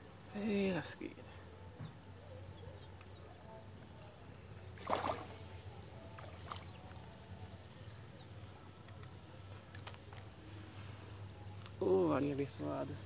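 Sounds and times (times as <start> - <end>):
faint background hum: 0.0 - 13.0.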